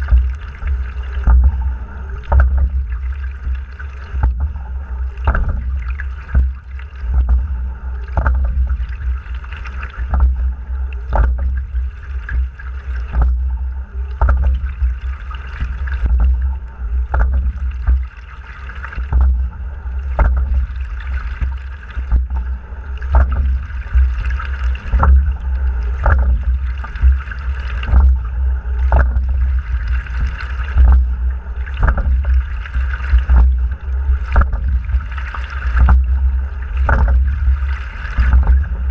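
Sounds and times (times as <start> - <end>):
oar knocks: 0.0 - 38.9
water rushing along hull: 0.0 - 38.9
wind rumble on microphone: 0.0 - 38.9.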